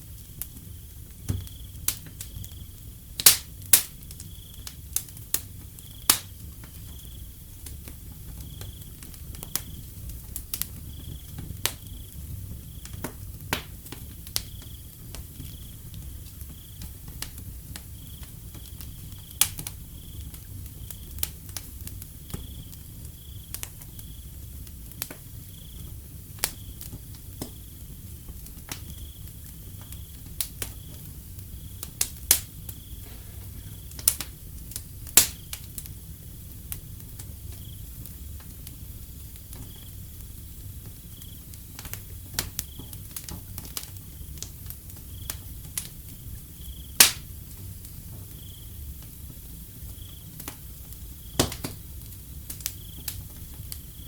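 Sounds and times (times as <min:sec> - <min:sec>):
wood fire crackling: 0:00.0 - 0:54.0
cricket chirping: 0:00.8 - 0:02.9, 0:04.1 - 0:13.0, 0:14.2 - 0:17.0, 0:17.8 - 0:21.3, 0:22.1 - 0:24.6, 0:25.3 - 0:28.2, 0:28.8 - 0:43.3, 0:44.0 - 0:49.0, 0:49.6 - 0:54.0.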